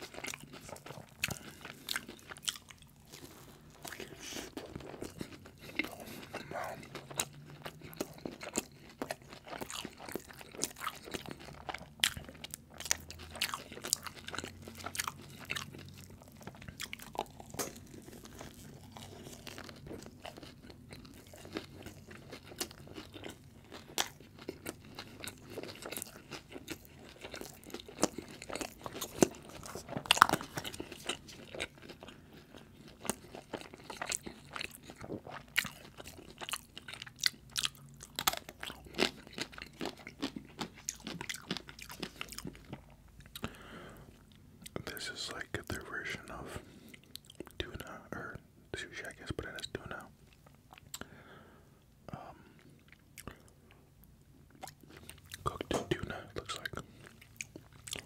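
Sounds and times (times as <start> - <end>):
chewing crispy fried food: 0.0 - 58.0.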